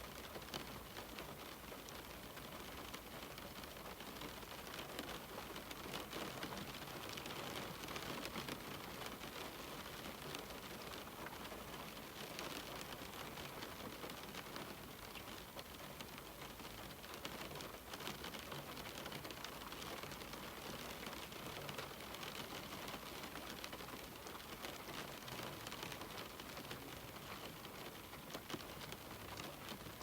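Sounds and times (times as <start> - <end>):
rain on a window: 0.0 - 30.0.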